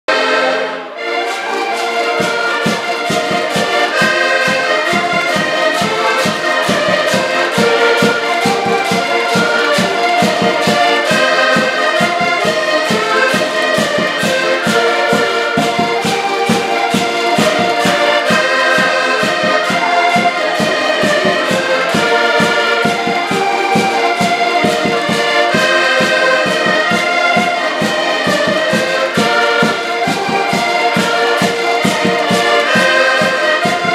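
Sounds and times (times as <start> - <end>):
accordion ensemble playing: 0.0 - 33.9.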